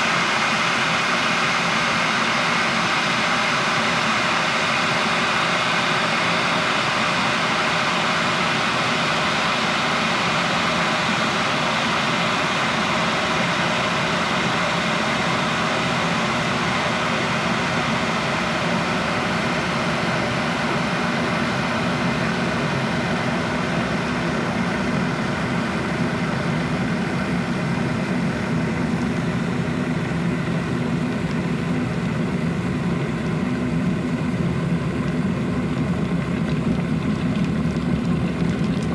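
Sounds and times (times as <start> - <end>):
electric kettle boiling: 0.0 - 38.9.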